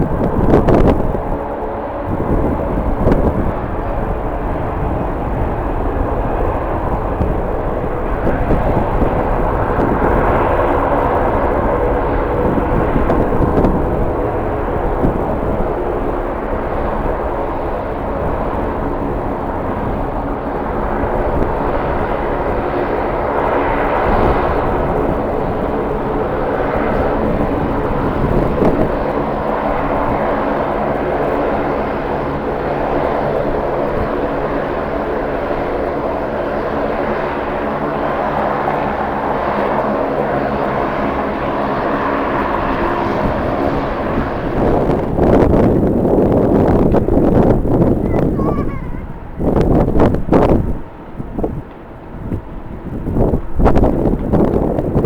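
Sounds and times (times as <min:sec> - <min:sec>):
jet engines running: 0:00.0 - 0:55.0
wind rumbling on microphone: 0:00.0 - 0:55.0.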